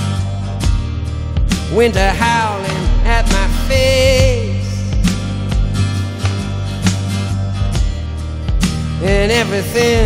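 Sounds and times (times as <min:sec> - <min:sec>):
instrumental pop music with beat: 0:00.0 - 0:10.0.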